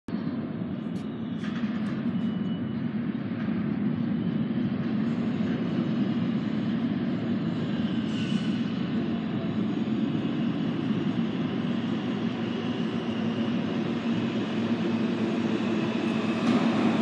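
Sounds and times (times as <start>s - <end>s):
subway train rumbling in tunnel: 0.1s - 17.0s.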